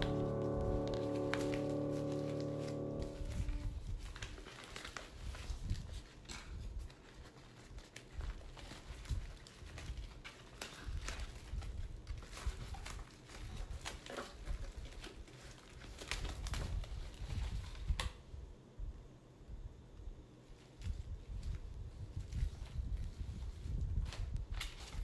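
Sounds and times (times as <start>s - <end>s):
paper wrap rustling and crinkling: 0.0s - 18.0s, 20.4s - 25.0s.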